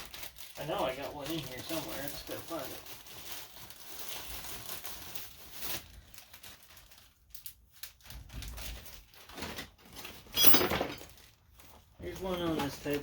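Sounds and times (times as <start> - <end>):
hands rustling and crinkling items: 0.0 - 13.0.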